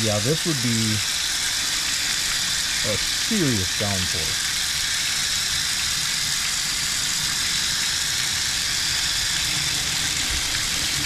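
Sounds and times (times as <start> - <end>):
hose water spraying on wall: 0.0 - 11.0.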